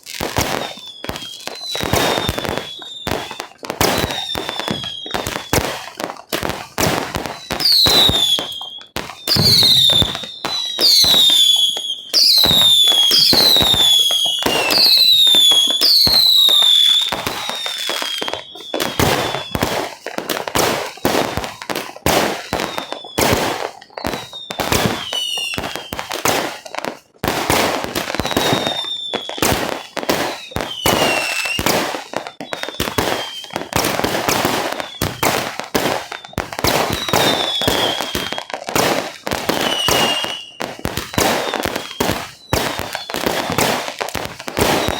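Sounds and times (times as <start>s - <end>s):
firework bangs and crackling: 0.0s - 44.9s
whistling firework shells: 0.0s - 44.9s.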